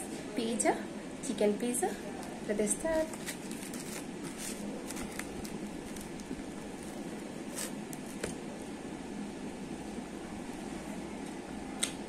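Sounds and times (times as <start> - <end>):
room fan hiss: 0.0 - 12.0.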